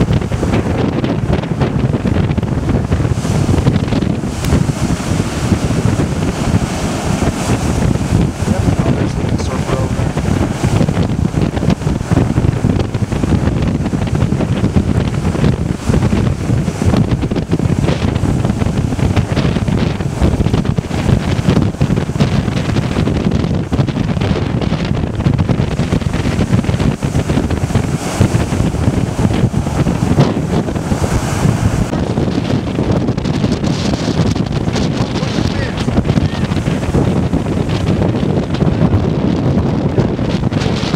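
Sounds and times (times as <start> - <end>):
heavy surf breaking on beach: 0.0 - 40.9
strong wind buffeting microphone: 0.0 - 40.9.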